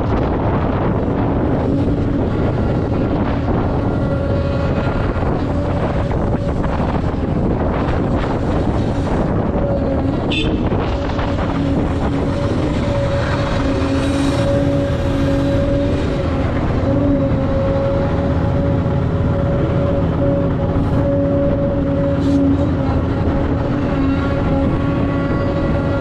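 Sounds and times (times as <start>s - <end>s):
heavy diesel machinery drone: 0.0s - 26.0s.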